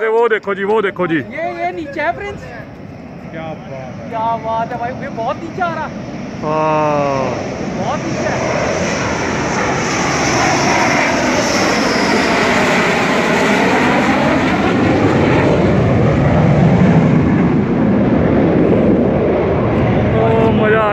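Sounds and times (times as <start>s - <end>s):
jet passing low overhead: 0.0s - 20.9s.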